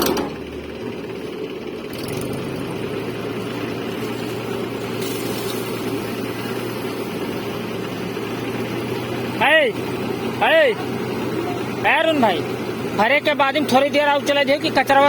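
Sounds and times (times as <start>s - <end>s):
construction machine engine running: 0.0s - 15.0s.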